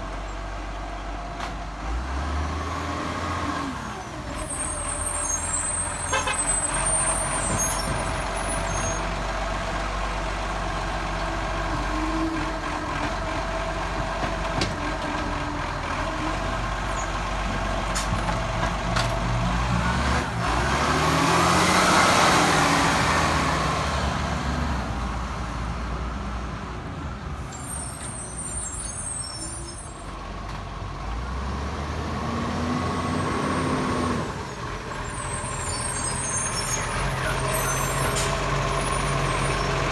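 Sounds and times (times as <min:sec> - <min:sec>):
garbage truck engine revving: 0:01.7 - 0:26.5, 0:30.8 - 0:39.9.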